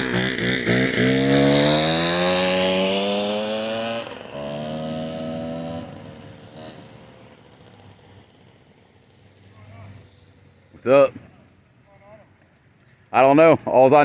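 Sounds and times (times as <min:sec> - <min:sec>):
scooter engine accelerating: 0:00.0 - 0:11.7.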